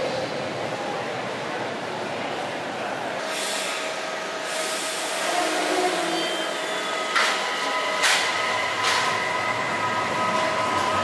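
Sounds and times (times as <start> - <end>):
train rolling noise: 0.0 - 11.0.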